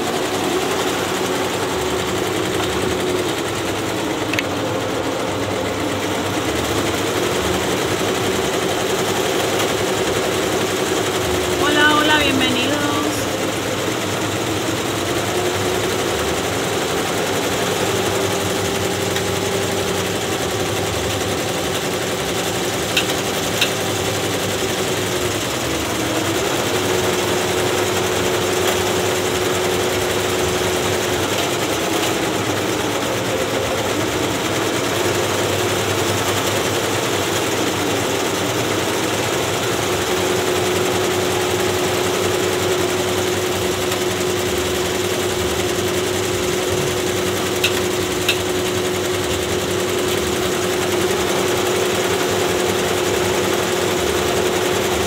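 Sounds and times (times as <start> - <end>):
embroidery machine needle clatter: 5.5 - 55.0.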